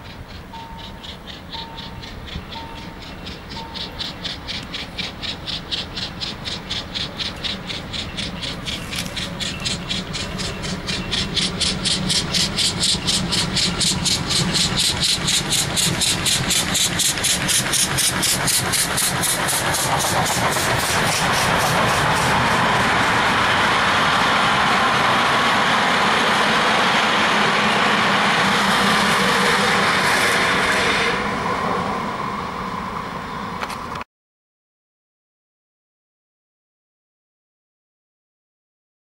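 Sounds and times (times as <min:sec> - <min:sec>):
steam locomotive exhaust chuffs: 0:00.0 - 0:34.0
train wheels rumbling on rails: 0:00.0 - 0:34.0.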